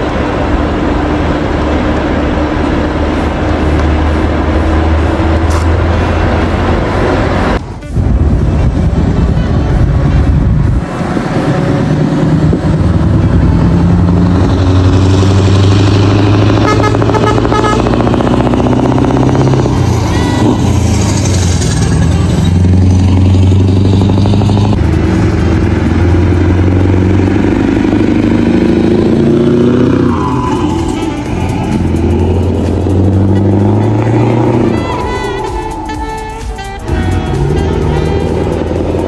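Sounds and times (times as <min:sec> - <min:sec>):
heavy truck engines under load: 0:00.0 - 0:39.0.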